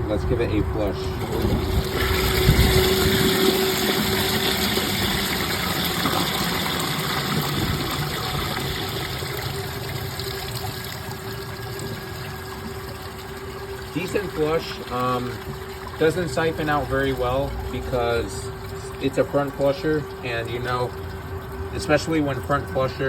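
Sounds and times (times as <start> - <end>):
steady hum: 0.0 - 23.0
toilet flushing: 0.0 - 23.0.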